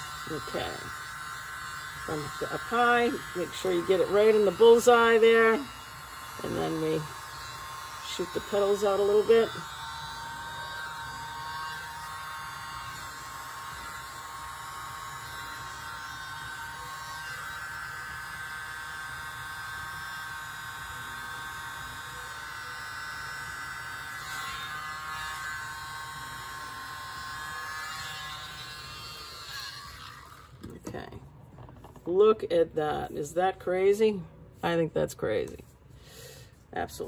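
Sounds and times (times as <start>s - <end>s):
mini leaf blower whining: 0.0s - 32.1s.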